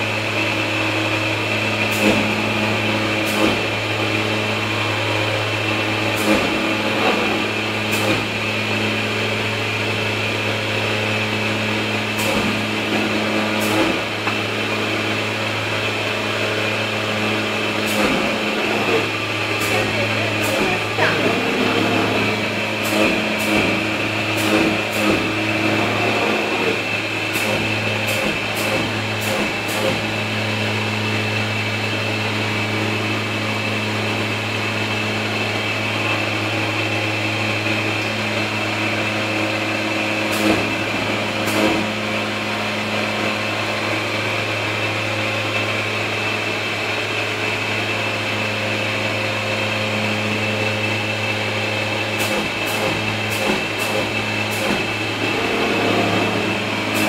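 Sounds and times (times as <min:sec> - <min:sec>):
cutting plotter humming: 0:00.0 - 0:57.0.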